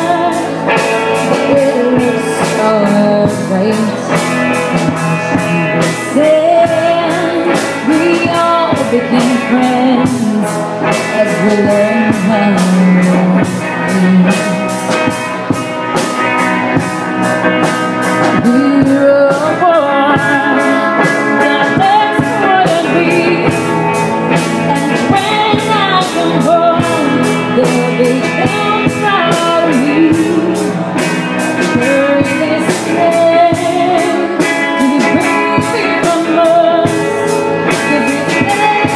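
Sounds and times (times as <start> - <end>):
woman singing: 0.0 - 15.2, 18.0 - 38.9
rock band playing: 0.0 - 38.9.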